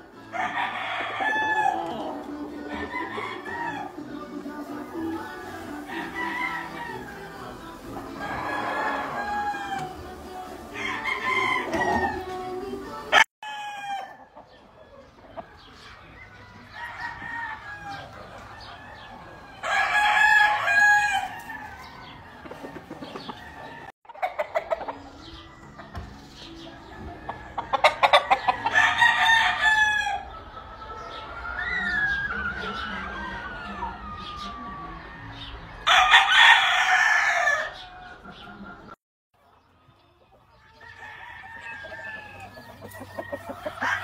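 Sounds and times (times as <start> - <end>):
roosters crowing: 0.0 - 39.0, 40.5 - 44.0.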